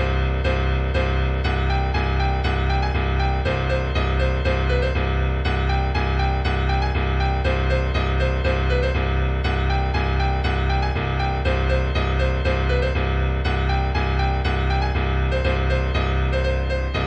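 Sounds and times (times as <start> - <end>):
keyboard repeated notes: 0.0 - 17.0
steady low drone: 0.0 - 17.0.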